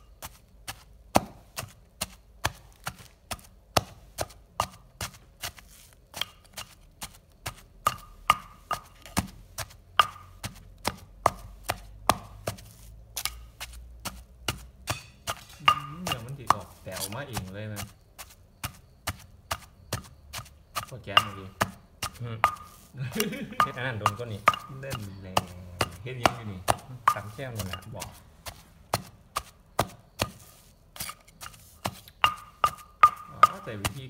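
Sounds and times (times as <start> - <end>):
pestle pounding in a mortar: 0.0 - 34.0.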